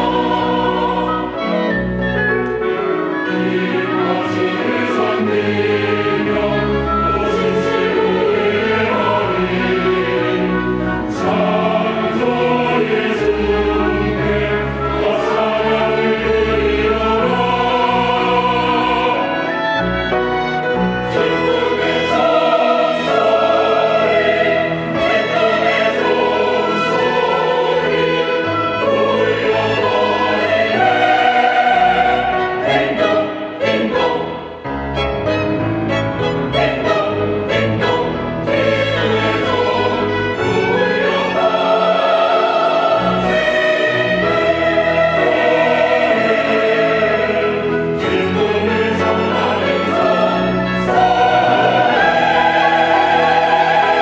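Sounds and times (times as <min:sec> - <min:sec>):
church choir singing: 0:00.0 - 0:54.0
instrumental accompaniment: 0:00.0 - 0:54.0.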